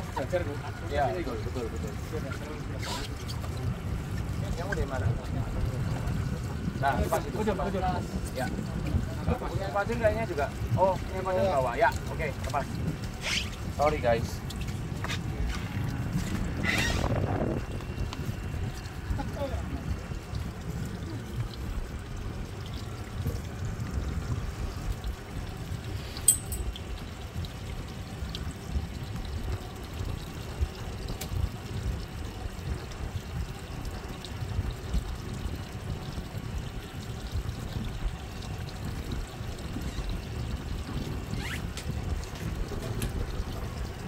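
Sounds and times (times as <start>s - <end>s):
water lapping against boat hull: 0.0s - 44.0s.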